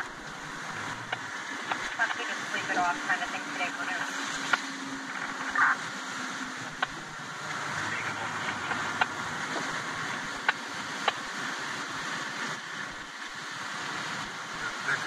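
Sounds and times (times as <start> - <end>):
engine and tyre noise: 0.0 - 15.0.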